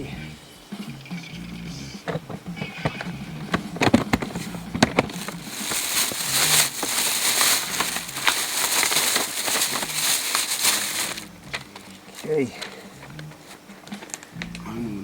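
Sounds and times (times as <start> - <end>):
steady crackling: 1.7 - 15.0
sheet material rustling and crinkling: 2.1 - 14.4.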